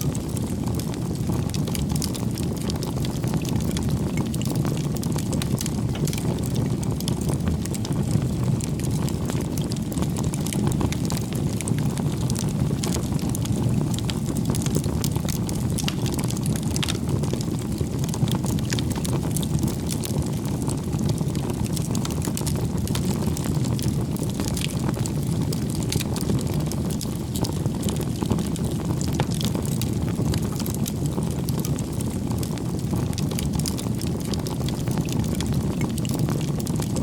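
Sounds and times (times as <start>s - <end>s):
bonfire flames rumbling: 0.0s - 37.0s
fire crackling and popping: 0.0s - 37.0s.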